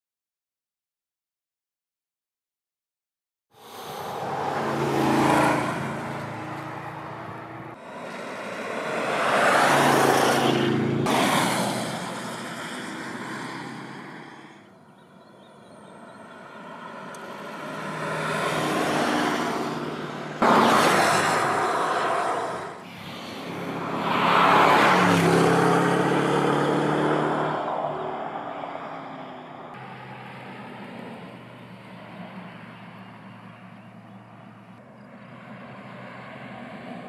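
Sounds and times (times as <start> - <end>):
car engine driving past: 3.7 - 37.0.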